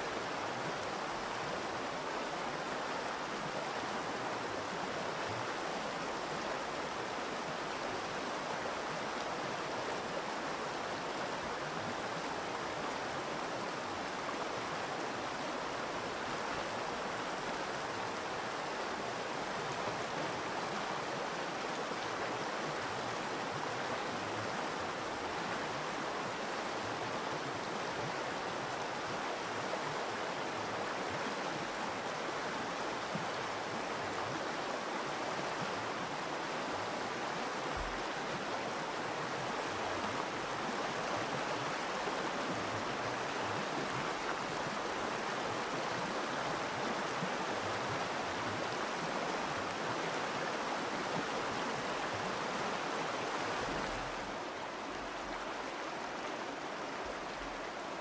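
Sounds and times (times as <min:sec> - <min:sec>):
river rushing over stones: 0:00.0 - 0:58.0.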